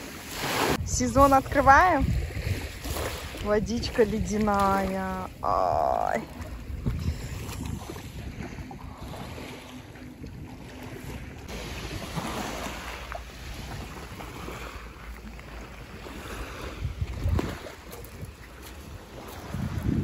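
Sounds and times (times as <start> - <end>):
small waves washing on beach: 0.0 - 20.0
wind rumbling on microphone: 0.0 - 20.0.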